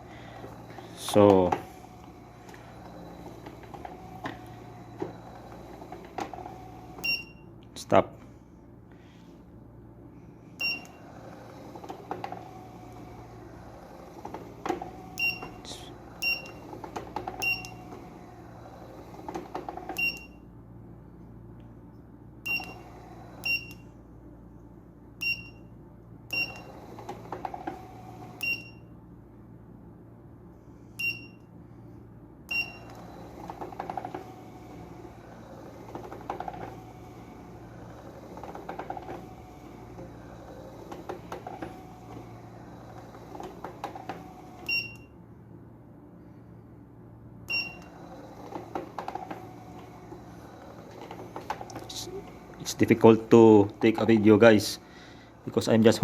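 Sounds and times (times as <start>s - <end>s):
massager motor humming and whirring: 0.0s - 56.0s.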